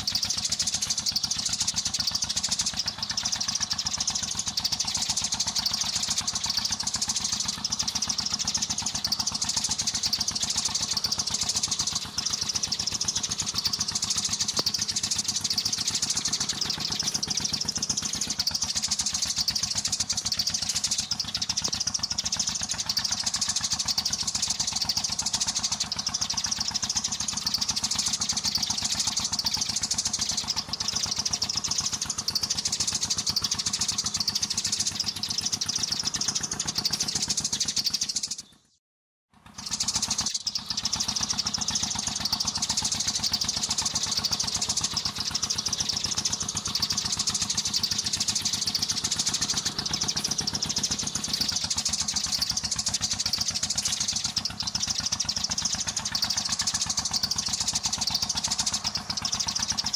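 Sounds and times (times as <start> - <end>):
steady low hum: 0.0 - 37.9, 39.6 - 59.9
sparrows chirping: 0.0 - 38.8, 39.4 - 59.9.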